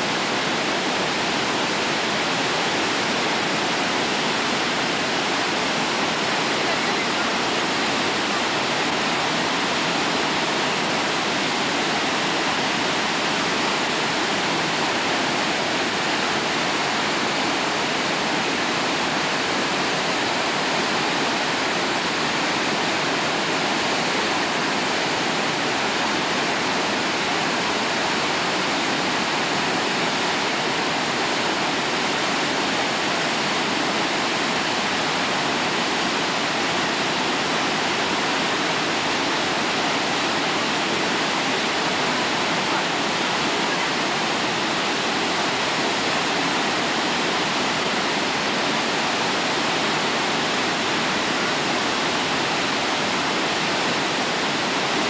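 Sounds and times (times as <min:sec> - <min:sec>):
white water rushing over rapids: 0:00.0 - 0:55.0.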